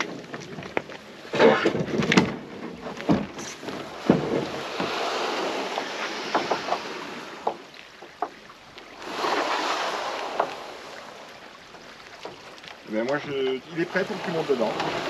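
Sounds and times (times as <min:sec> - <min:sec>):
boat hull scraping along mat: 0:01.2 - 0:08.1, 0:09.0 - 0:15.0.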